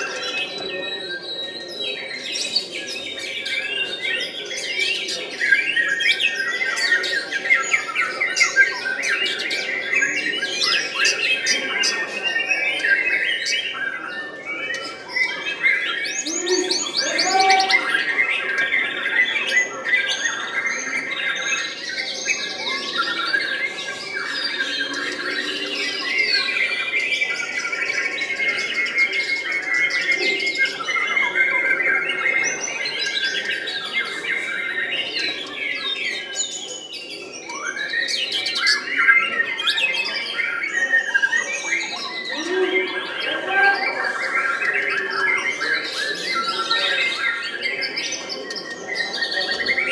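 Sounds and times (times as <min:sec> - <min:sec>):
other birds singing: 0:00.0 - 0:49.9.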